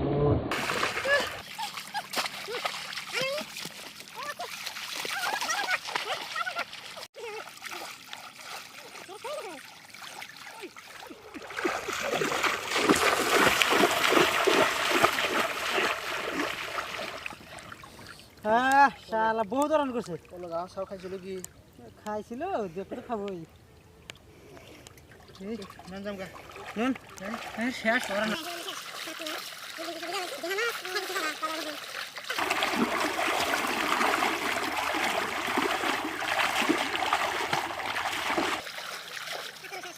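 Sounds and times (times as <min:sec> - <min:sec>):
water splashing and sloshing: 0:00.5 - 0:39.9.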